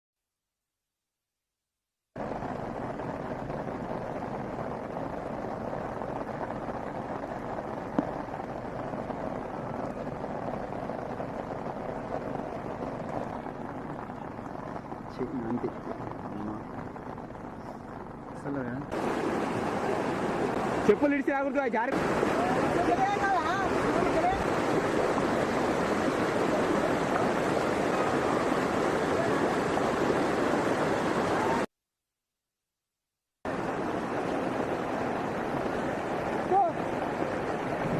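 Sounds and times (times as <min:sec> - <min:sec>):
floodwater rushing: 0:02.2 - 0:31.7, 0:33.5 - 0:37.9.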